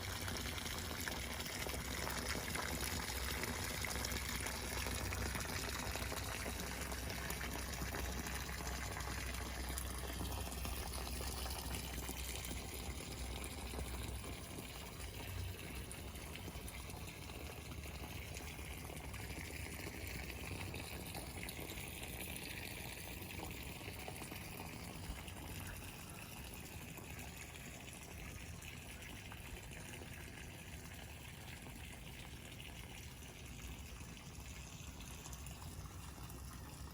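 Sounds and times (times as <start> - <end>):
water pouring steadily: 0.0 - 36.9.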